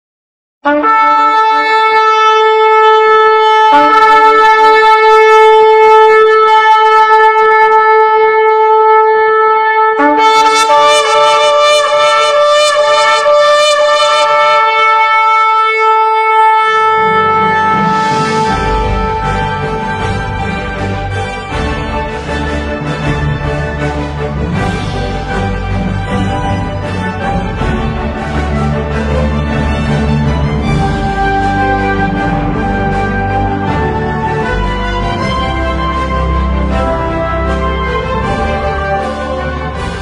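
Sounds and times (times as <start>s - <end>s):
higher horn tone: 0.6s - 40.0s
loud horn blasts: 0.6s - 40.0s.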